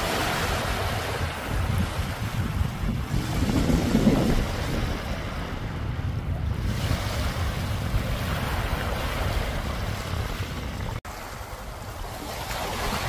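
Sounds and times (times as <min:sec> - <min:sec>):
small waves lapping on shore: 0:00.0 - 0:13.0
wind buffeting microphone: 0:00.0 - 0:13.0.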